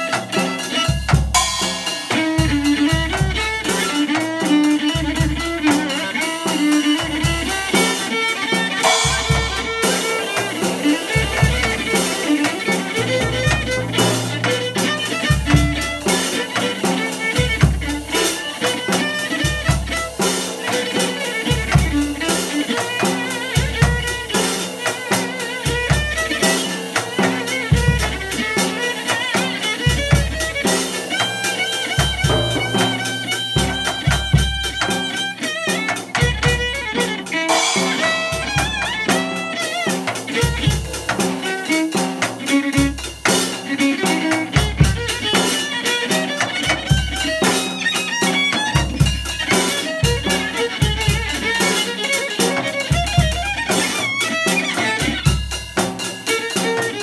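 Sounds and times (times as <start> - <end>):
drum kit with cymbals: 0.0 - 57.0
electric violin melody: 0.0 - 57.0.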